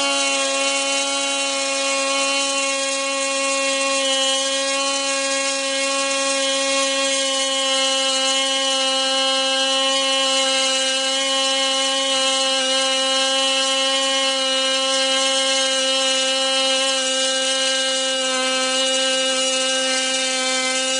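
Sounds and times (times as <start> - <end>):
model aircraft engine buzzing: 0.0 - 20.9.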